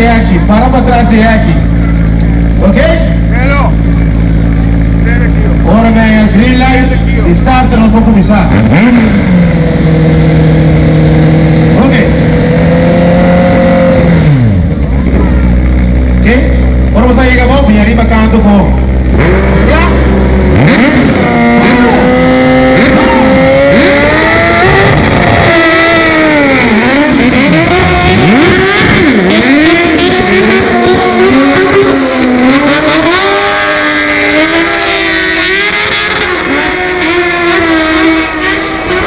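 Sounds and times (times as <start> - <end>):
racing engines at full throttle: 0.0 - 39.0.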